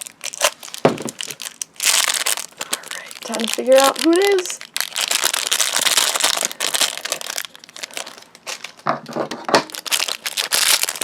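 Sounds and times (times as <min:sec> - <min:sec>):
plastic wrapping crinkling and tearing: 0:00.0 - 0:11.0.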